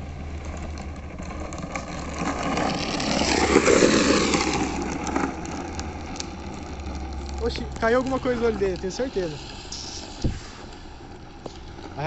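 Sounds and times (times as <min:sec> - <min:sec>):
plastic wheels grinding on asphalt: 0:00.0 - 0:12.0.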